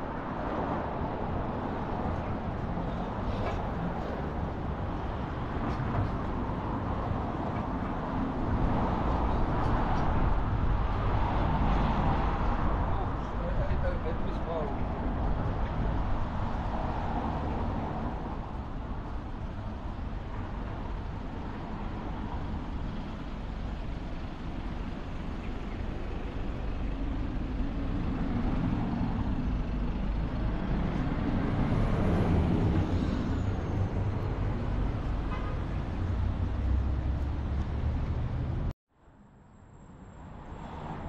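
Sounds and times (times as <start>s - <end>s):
bus passing close by: 0.0s - 41.0s
street traffic noise: 0.0s - 41.0s.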